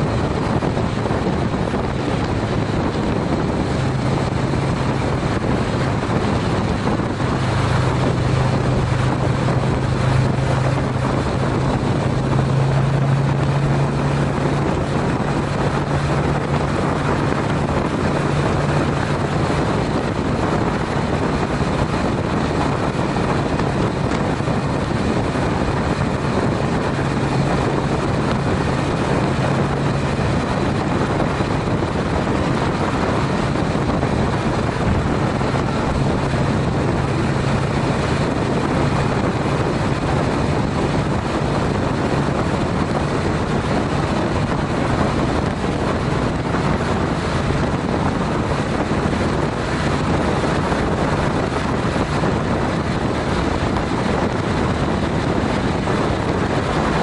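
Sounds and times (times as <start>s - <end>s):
motorcycle engine drone: 0.0s - 57.0s
wind rushing over microphone: 0.0s - 57.0s.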